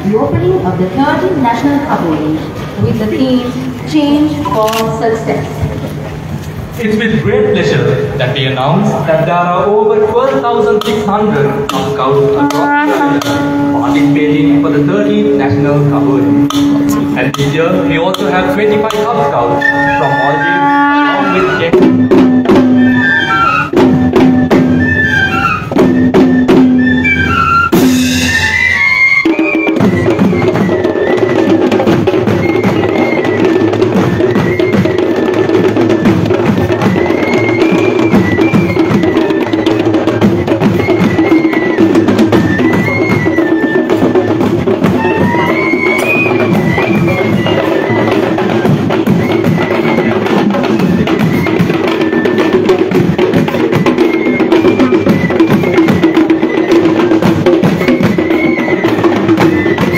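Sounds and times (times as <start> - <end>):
drums in fast rhythm: 0.0 - 59.9
wind instrument melody: 0.0 - 59.9.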